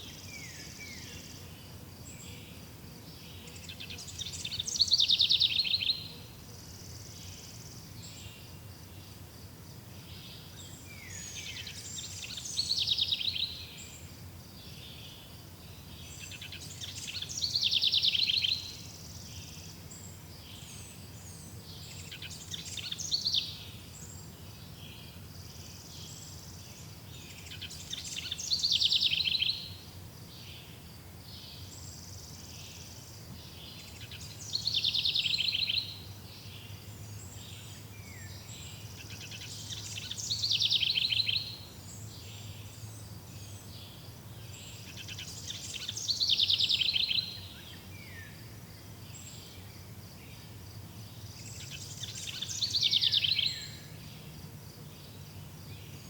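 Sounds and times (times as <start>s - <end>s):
faint natural ambience: 0.0s - 56.0s.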